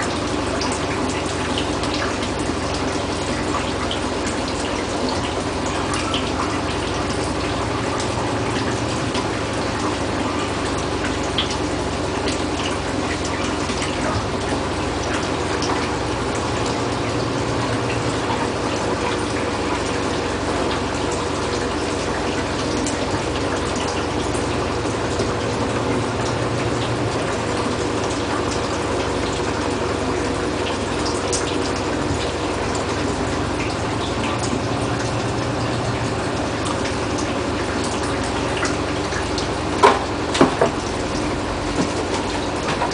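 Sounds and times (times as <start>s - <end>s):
washing machine mechanical hum: 0.0s - 42.9s
water rushing in washing machine: 0.0s - 42.9s.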